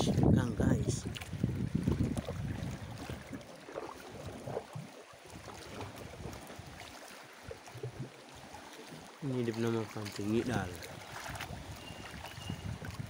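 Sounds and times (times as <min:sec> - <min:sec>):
water splashing against canoe hull: 0:00.0 - 0:13.0.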